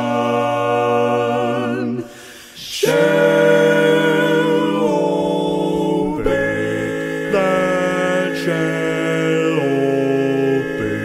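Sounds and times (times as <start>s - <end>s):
men singing a cappella harmony: 0.0s - 11.0s.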